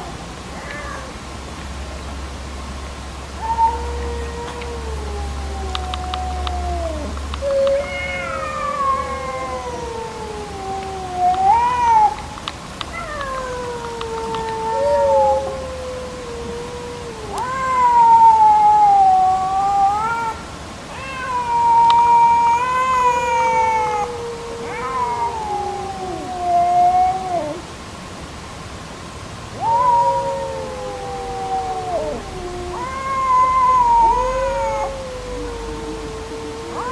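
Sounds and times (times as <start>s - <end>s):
cats yowling: 0.0s - 1.2s, 3.3s - 27.7s, 29.5s - 36.9s.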